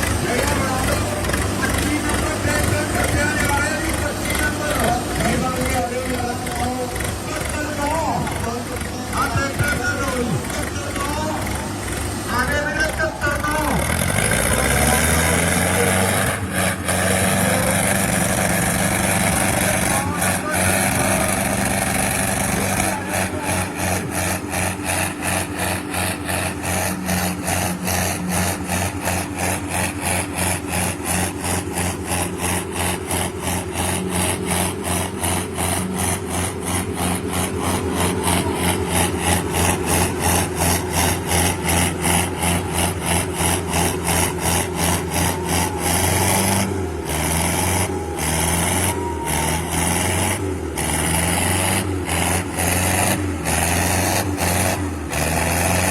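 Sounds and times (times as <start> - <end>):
tractor engines pulsing under load: 0.0 - 55.9.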